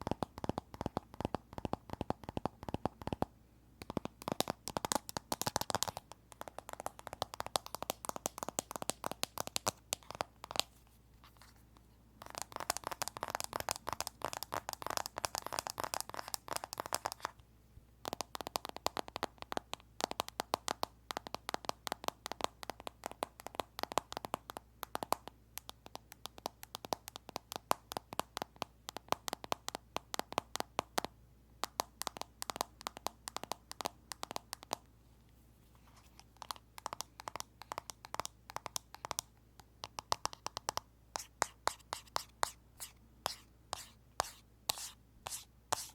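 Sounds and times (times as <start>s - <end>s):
fast tapping on phone screen: 0.0s - 10.8s, 12.2s - 17.4s, 18.0s - 34.9s, 35.8s - 45.9s.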